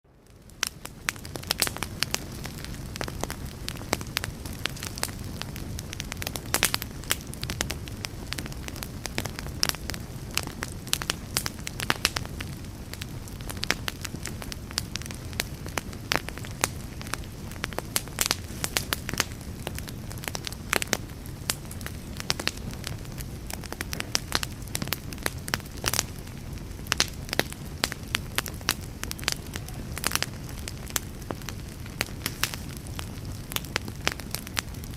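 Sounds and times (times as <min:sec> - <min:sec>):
burning wood crackling and popping: 0:00.1 - 0:34.9
campfire flames rushing: 0:00.1 - 0:34.9.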